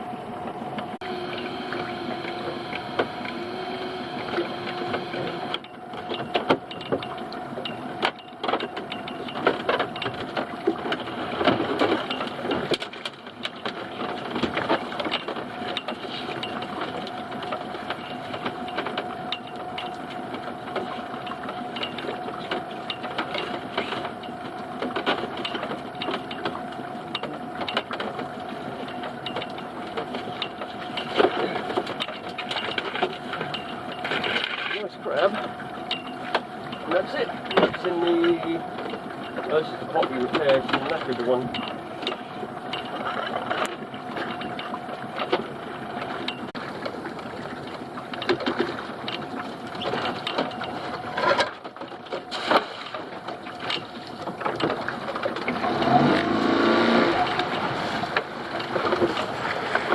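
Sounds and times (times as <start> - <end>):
boat motor running: 0.0 - 59.9
gear knocking and rattling: 4.3 - 59.9.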